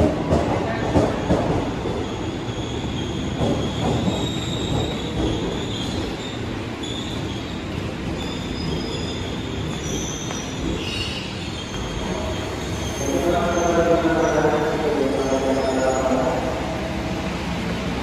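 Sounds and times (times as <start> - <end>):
electric train rumbling: 0.0 - 18.0
high wheel squeal: 1.9 - 16.4.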